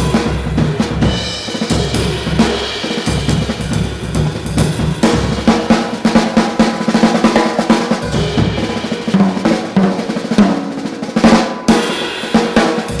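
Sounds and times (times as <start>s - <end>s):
background music with drums: 0.0s - 13.0s.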